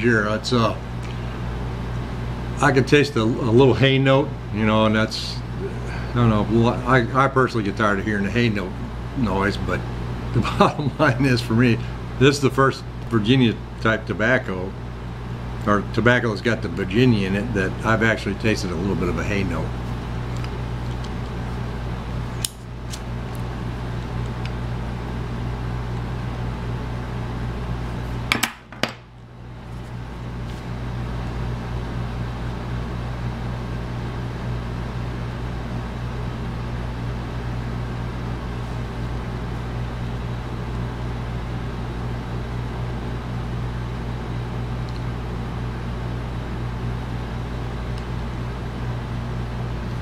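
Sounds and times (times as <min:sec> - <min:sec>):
low hum with hiss: 0:00.0 - 0:50.0.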